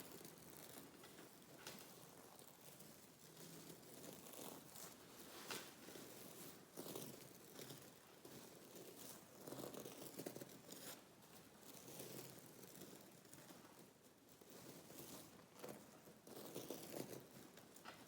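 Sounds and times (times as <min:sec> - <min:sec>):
rustling and scratching: 0:00.0 - 0:18.0.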